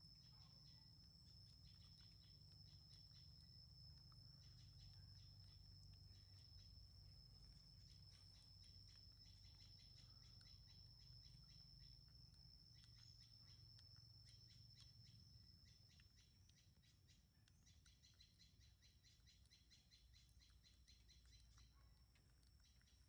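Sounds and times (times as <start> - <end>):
faint rapid high chirping: 0.0 - 23.0.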